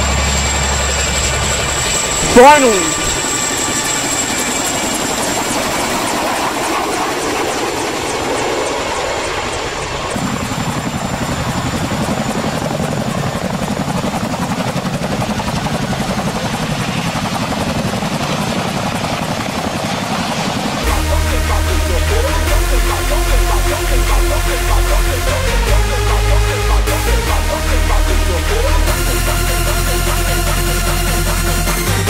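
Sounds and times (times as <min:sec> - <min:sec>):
helicopter rotor chopping: 0:00.0 - 0:32.0.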